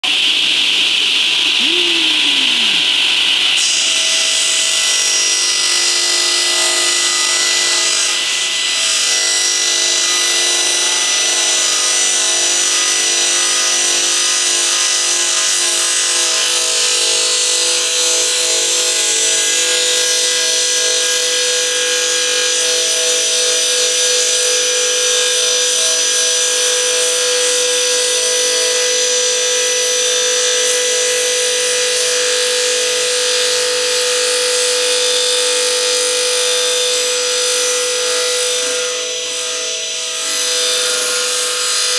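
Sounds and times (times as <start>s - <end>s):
table saw cutting wood: 0.0s - 41.9s.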